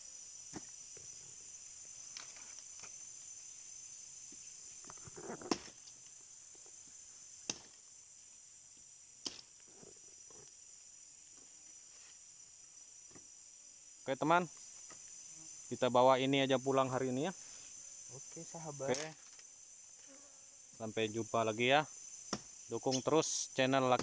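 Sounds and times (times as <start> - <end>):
forest insects droning: 0.0 - 24.0.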